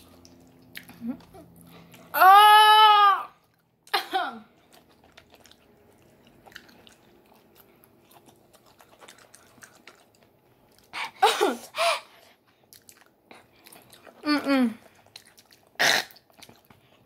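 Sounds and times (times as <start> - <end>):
wet chewing: 0.0 - 2.1, 3.4 - 11.0, 12.5 - 17.0.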